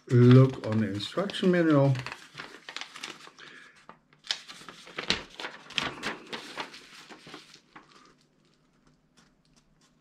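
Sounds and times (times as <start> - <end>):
paper rustling and crinkling: 0.1 - 10.0.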